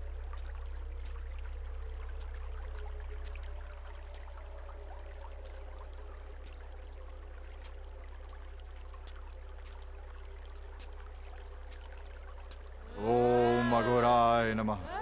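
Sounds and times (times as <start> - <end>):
soft ticks and crackles: 0.0 - 13.0.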